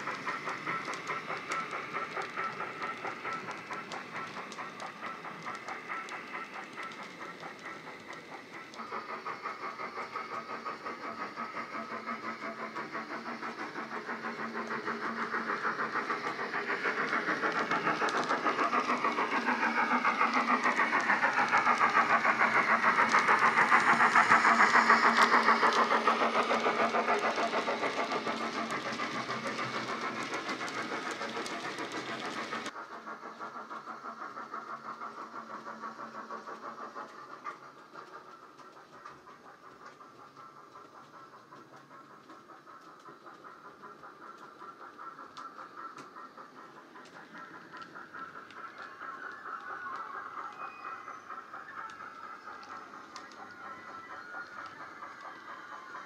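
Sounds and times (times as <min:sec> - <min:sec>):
model steam locomotive chuffing: 0:00.0 - 0:56.0.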